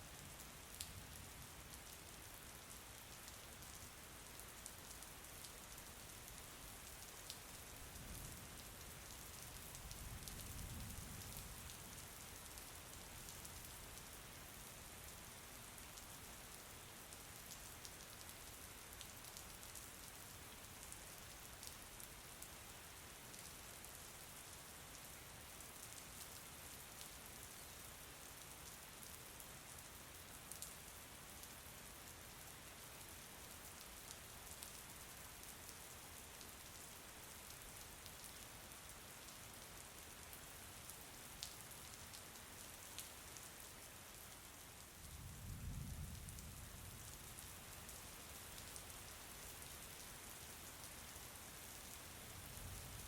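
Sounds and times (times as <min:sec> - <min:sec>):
faint steady rain: 0:00.0 - 0:53.0.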